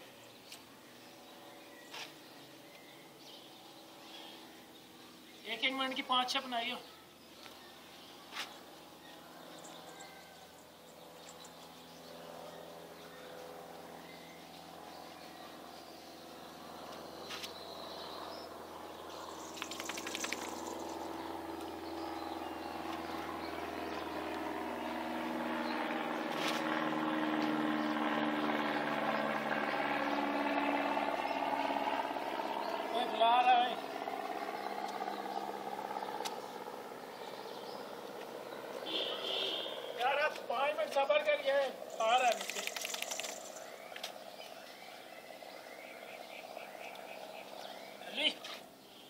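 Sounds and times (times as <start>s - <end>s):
distant engine drone: 0.0s - 49.0s.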